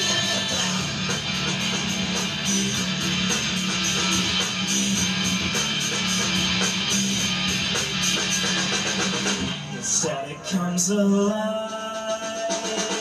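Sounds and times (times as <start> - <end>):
steady drum beat: 0.0 - 10.6, 11.2 - 13.0
electric guitars strummed: 0.0 - 13.0.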